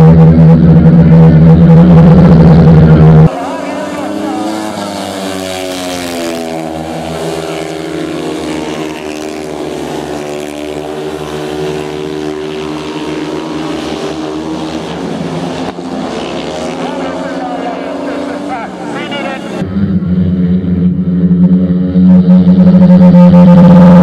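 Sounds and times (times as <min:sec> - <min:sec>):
motorcycle engines racing: 0:00.0 - 0:24.0.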